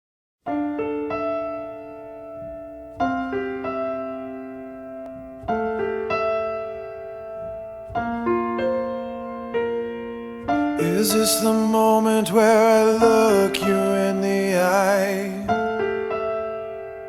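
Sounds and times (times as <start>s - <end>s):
solo piano playing slow ballad: 0.4s - 17.0s.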